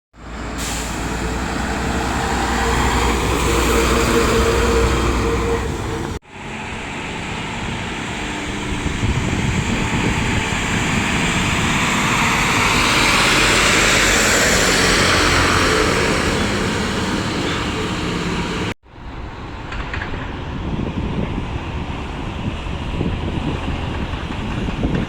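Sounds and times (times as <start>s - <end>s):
rushing engine and road noise: 0.1s - 25.0s
truck engine droning: 0.2s - 25.0s.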